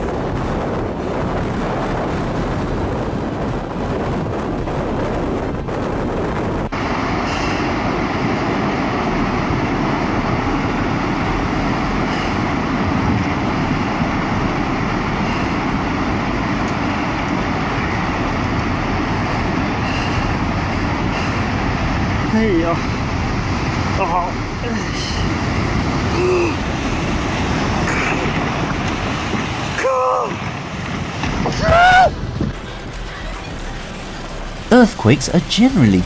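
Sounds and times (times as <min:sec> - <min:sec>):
churning sea: 0:00.0 - 0:36.0
tornado wind roaring: 0:00.0 - 0:36.0.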